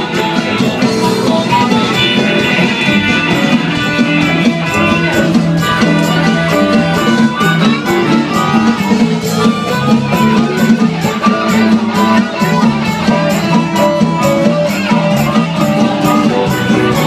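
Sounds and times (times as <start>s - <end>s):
amplified harmonica solo: 0.0s - 17.0s
electric bass: 0.0s - 17.0s
steady drum beat: 0.0s - 17.0s.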